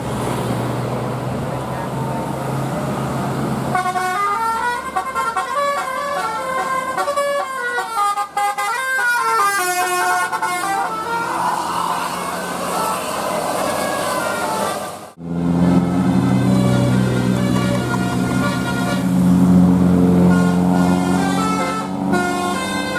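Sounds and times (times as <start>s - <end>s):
bus engine: 0.0s - 22.9s
road noise: 0.0s - 22.9s
bus horn playing melody: 3.7s - 22.9s.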